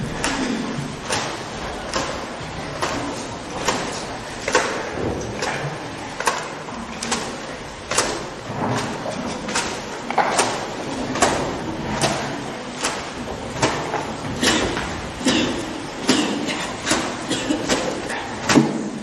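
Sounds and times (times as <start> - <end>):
low background murmur: 0.0 - 19.0.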